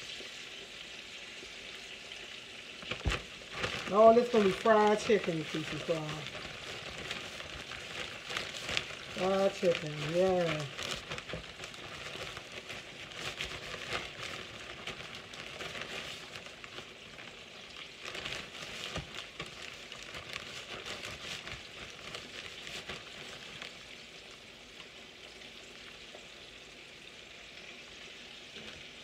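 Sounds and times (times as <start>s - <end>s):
chicken deep-frying in oil: 0.0s - 29.0s.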